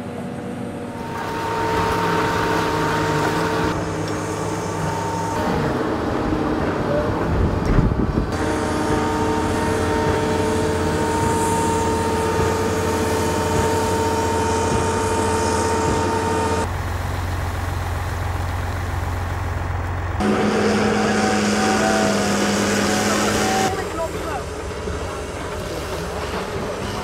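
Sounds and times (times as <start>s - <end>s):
construction machinery engines: 0.0s - 27.0s.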